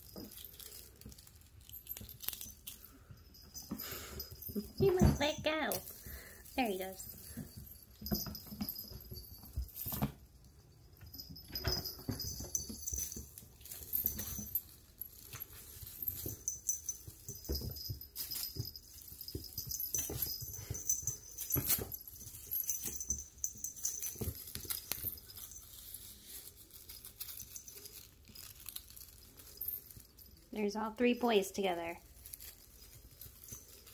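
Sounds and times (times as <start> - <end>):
wand toy rustling: 0.0 - 33.9.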